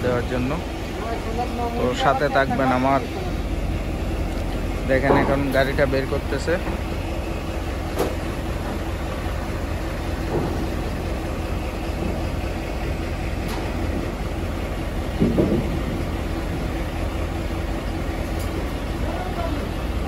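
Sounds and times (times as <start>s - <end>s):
suv engine idling: 0.0s - 20.0s.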